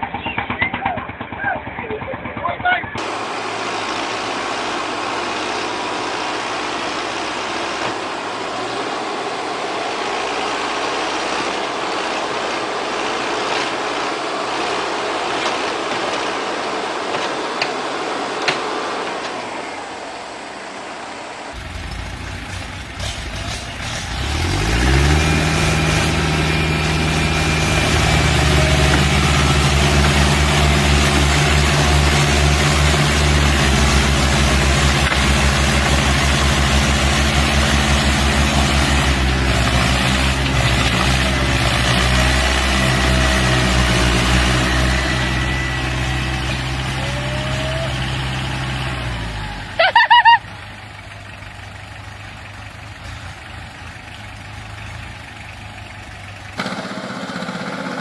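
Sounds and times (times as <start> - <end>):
heavy vehicle engine: 0.0 - 58.0.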